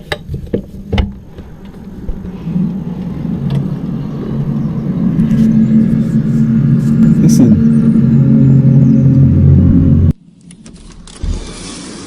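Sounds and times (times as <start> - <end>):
low droning hum: 0.0 - 11.2.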